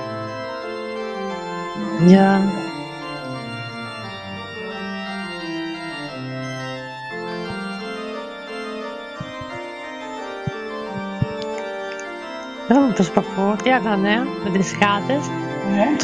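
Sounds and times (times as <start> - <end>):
organ chords: 0.0 - 16.0.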